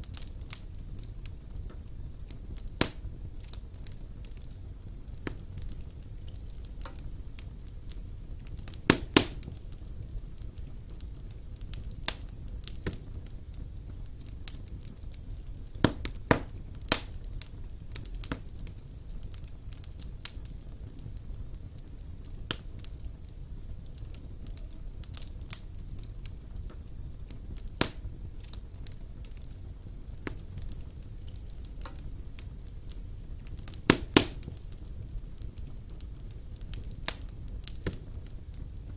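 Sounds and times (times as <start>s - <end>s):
fire flames rumbling: 0.0s - 38.9s
logs crackling and popping: 0.0s - 38.9s.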